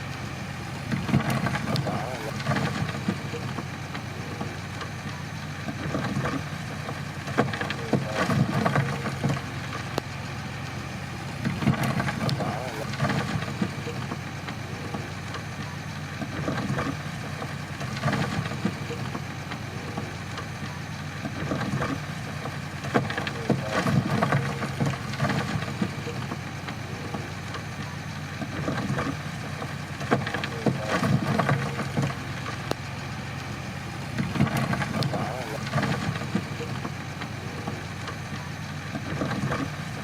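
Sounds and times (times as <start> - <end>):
bulldozer diesel engine under load: 0.0 - 40.0.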